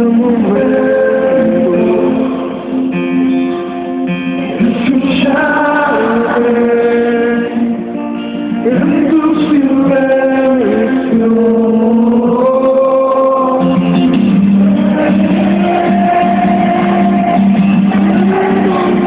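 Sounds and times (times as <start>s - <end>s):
man singing: 0.0s - 2.9s, 4.4s - 19.0s
acoustic guitar strumming: 0.0s - 19.0s.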